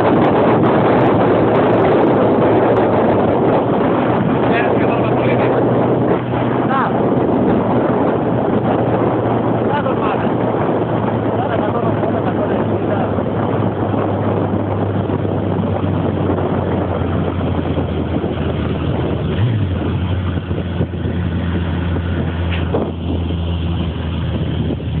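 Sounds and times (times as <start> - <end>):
heavy wind rush: 0.0 - 25.0
motorcycle engine cruising: 0.0 - 25.0.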